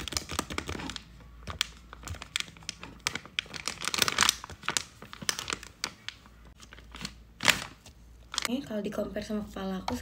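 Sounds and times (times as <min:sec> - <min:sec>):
plastic wipes pack crinkling: 0:00.0 - 0:08.6.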